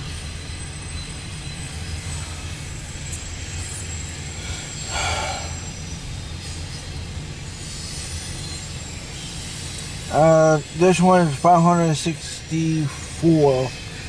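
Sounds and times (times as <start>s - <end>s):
freight train rumbling past: 0.0s - 14.0s
loud noise from passing train: 0.0s - 14.0s.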